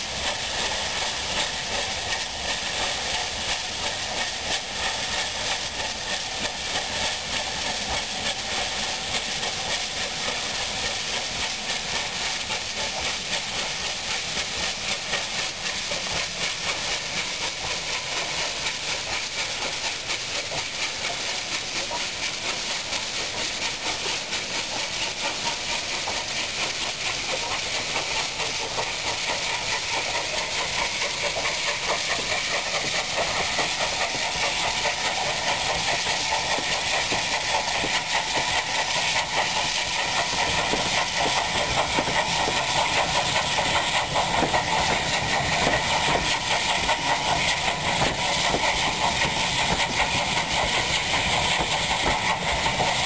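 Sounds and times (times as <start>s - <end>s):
steam hissing: 0.0s - 53.0s
train coaches rumbling over rails: 0.0s - 53.0s.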